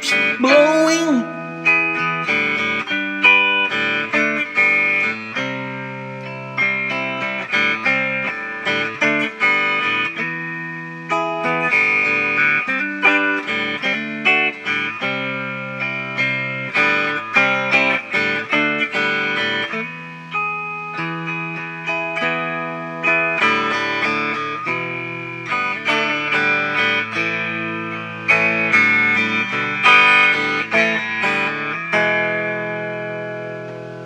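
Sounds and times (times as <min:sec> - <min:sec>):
picked guitar notes: 0:00.0 - 0:34.0.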